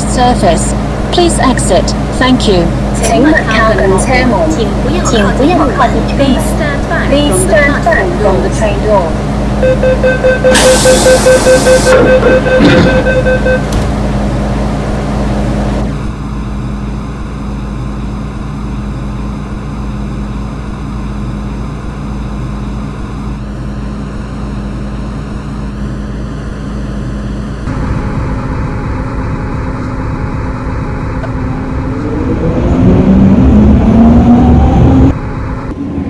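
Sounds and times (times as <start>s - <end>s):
traction motors whining: 0.0s - 36.0s
train electrical hum: 0.0s - 36.0s.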